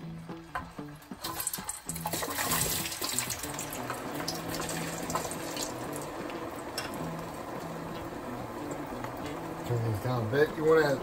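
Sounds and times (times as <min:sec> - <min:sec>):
potatoes sizzling in hot oil: 0:00.0 - 0:11.0.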